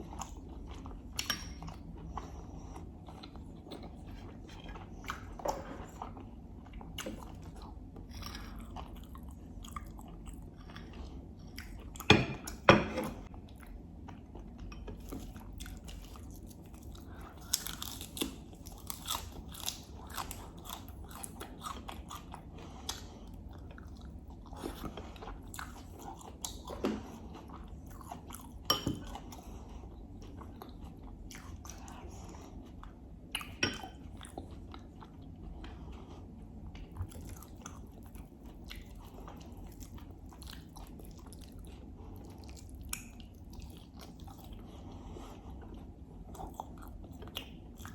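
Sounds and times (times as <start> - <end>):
close-miked chewing and crunching: 0.0 - 47.9.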